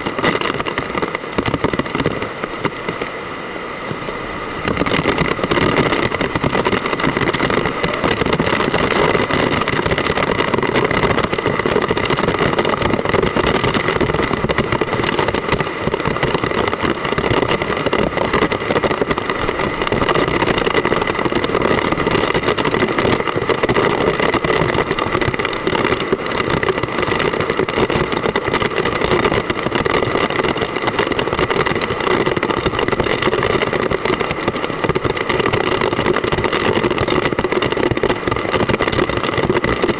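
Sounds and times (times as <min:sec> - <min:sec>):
heavy rain: 0:00.0 - 0:39.9
strong wind: 0:00.0 - 0:39.9.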